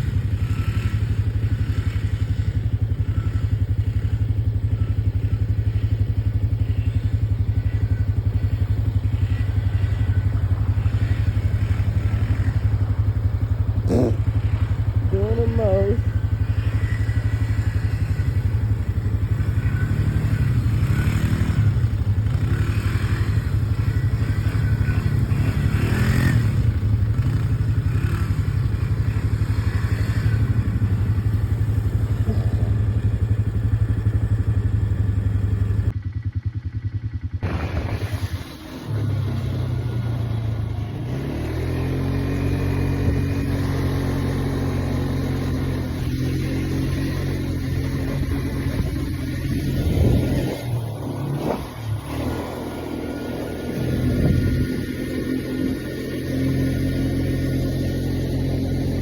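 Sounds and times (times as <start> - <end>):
atv engine running and revving: 0.0 - 59.0.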